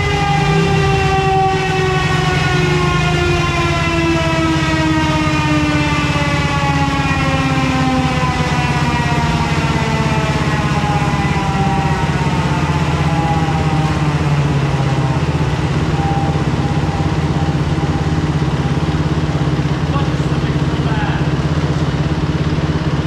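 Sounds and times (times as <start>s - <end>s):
dirt bike engine idling: 0.0s - 23.0s.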